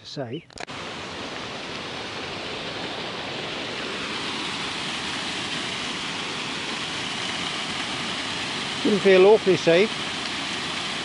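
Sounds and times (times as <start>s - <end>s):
running water rushing: 0.6s - 11.0s.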